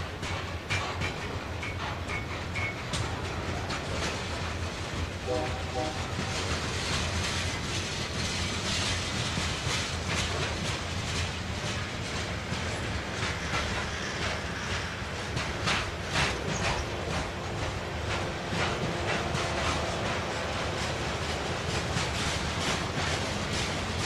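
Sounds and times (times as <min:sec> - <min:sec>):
freight train rumbling past: 0:00.0 - 0:24.0
wheels clacking over rail joints: 0:00.0 - 0:24.0.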